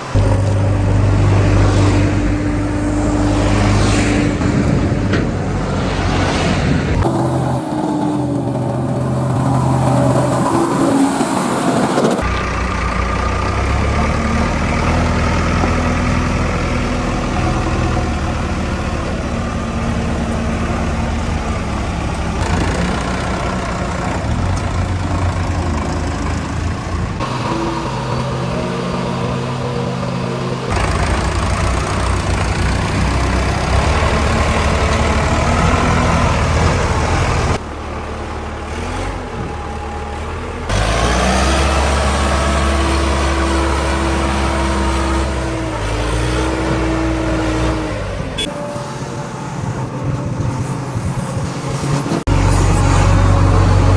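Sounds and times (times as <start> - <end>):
diesel engines revving: 0.0 - 53.9.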